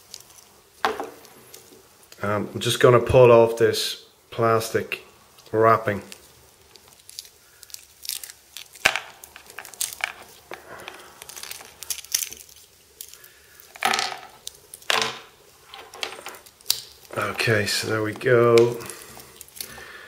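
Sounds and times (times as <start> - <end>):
plastic wrapping crinkling: 0.0 - 2.2, 5.3 - 20.0.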